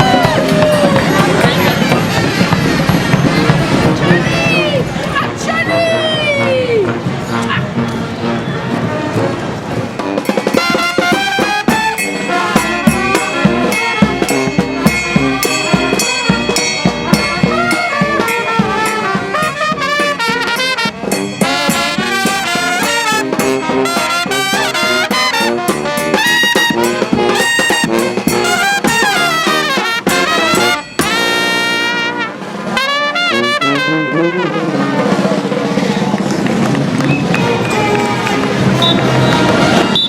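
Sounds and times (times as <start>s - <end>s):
drums: 0.0s - 40.0s
trumpets and trombones: 0.0s - 40.0s.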